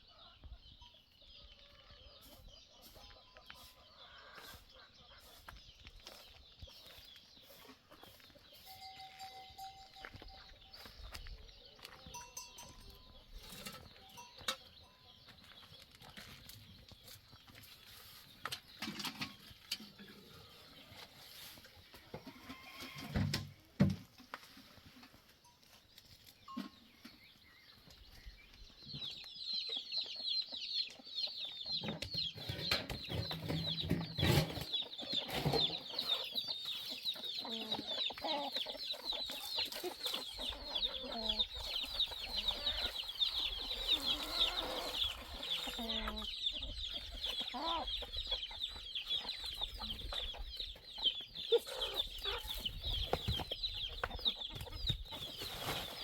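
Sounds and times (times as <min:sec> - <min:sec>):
chicks cheeping: 0:00.0 - 0:22.2, 0:26.3 - 0:56.0
chickens clucking: 0:00.0 - 0:56.0.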